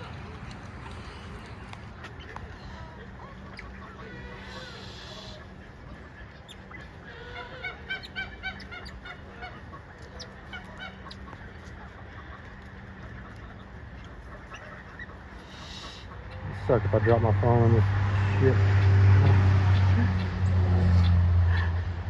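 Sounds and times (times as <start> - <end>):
poultry calling: 0.0 - 21.9.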